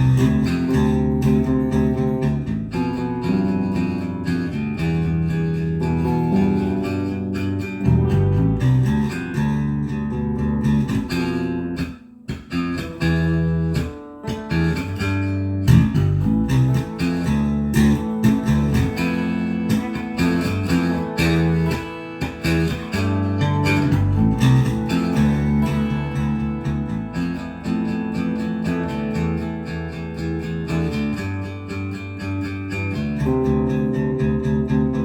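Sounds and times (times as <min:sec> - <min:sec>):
electric bass guitar plucked notes: 0:00.0 - 0:35.0.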